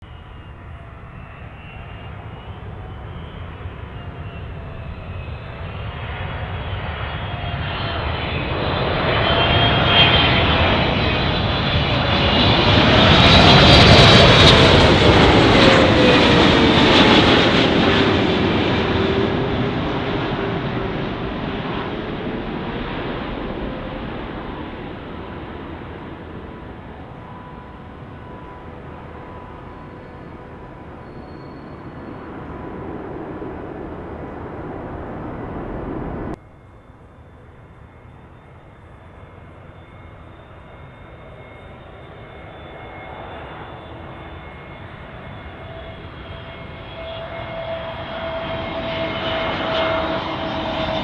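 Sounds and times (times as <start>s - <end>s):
high jet whine: 0.0s - 51.0s
jet engines passing: 0.0s - 51.0s.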